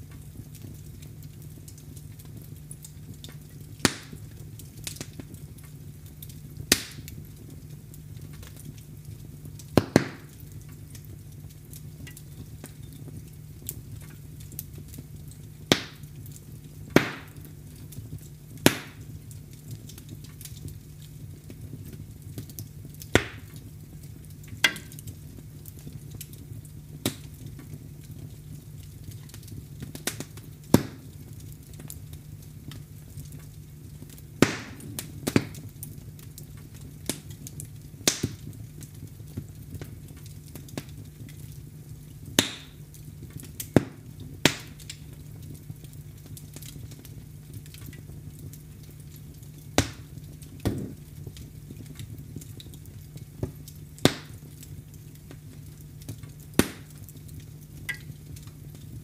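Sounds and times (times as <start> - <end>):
fire pops and snaps: 0.0 - 59.0
wood fire crackling: 0.0 - 59.0.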